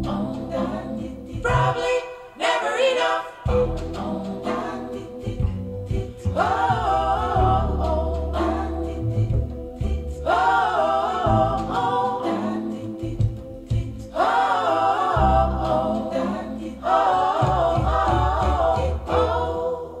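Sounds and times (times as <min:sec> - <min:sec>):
deep bass notes: 0:00.0 - 0:01.9, 0:03.5 - 0:20.0
singing with vibrato: 0:00.0 - 0:20.0.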